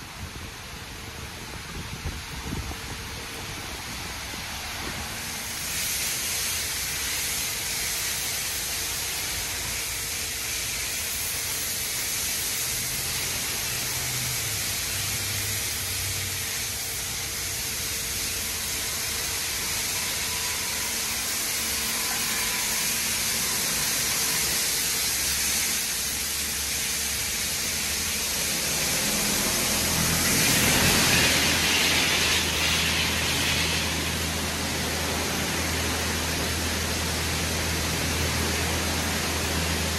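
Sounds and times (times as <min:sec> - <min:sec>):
car wash water spray hissing: 0:00.0 - 0:39.9.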